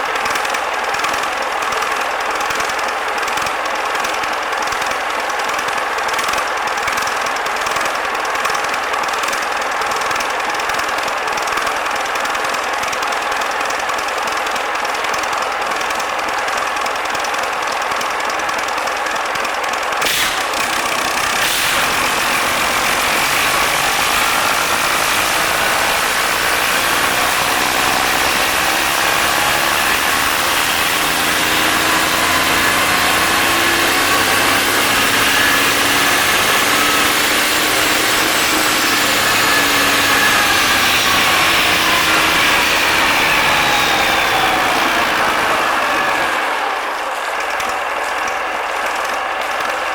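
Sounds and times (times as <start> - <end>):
marine diesel engine running: 0.0 - 49.9.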